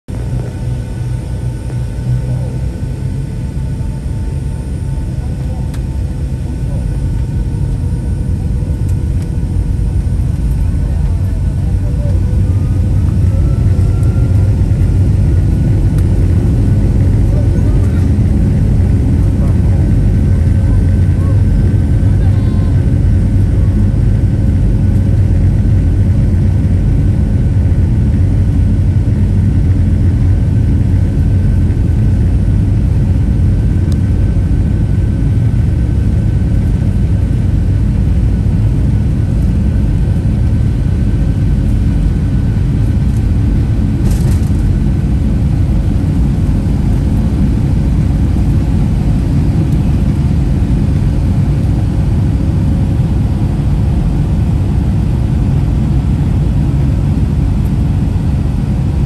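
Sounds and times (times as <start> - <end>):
jet engines rumbling: 0.1 - 59.0.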